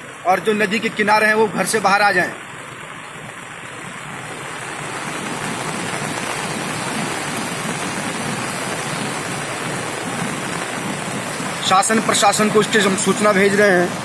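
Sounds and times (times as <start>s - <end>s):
rushing floodwater: 0.0s - 14.0s.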